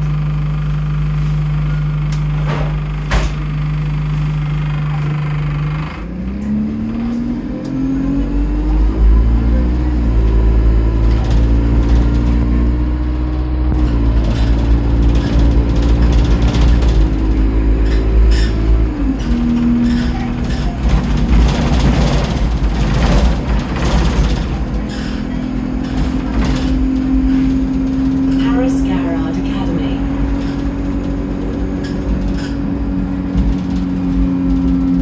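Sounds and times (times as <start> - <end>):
bus engine pulling away: 0.0 - 35.0.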